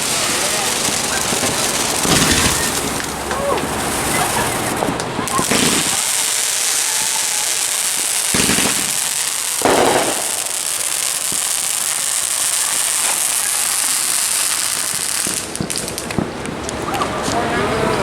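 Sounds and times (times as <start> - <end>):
fireworks crackling: 0.0 - 17.5.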